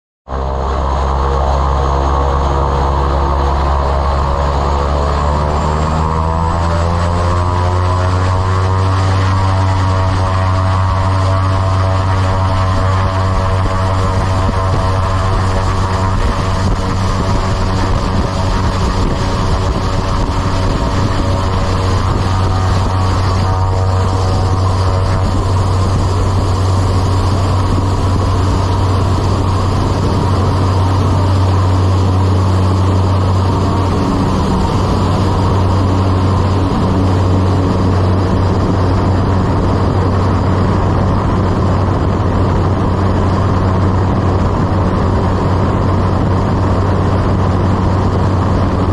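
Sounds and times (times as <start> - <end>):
propeller aircraft taking off: 0.3 - 48.9.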